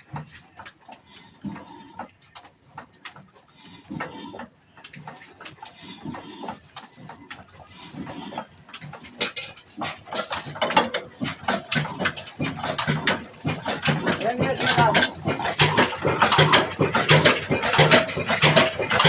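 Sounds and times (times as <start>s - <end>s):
diesel engine turning over: 2.6s - 19.0s.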